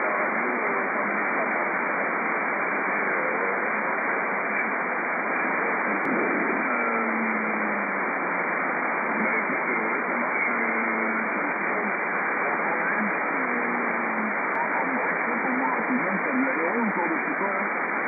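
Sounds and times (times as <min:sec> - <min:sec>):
radio hiss and static: 0:00.0 - 0:18.0.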